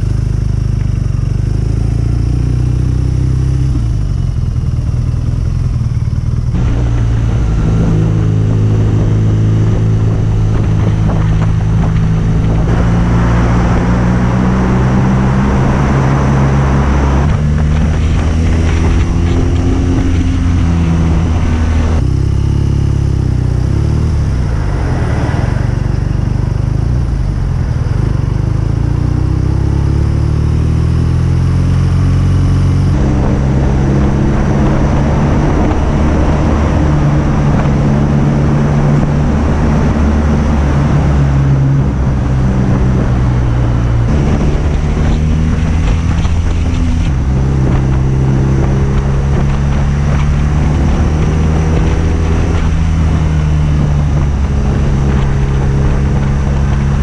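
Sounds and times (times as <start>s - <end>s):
motorcycle engine exhaust: 0.0s - 57.0s.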